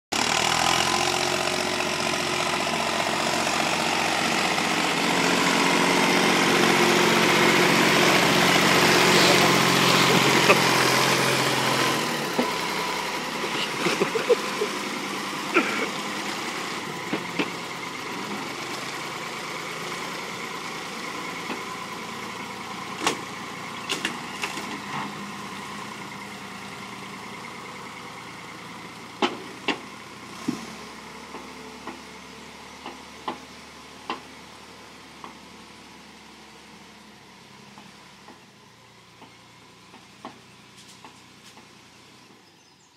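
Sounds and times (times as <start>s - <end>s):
tractor engine running: 0.1s - 42.5s.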